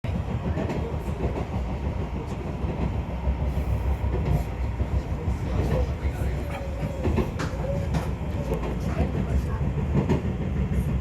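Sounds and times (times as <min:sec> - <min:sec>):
train rumble from inside: 0:00.0 - 0:11.0.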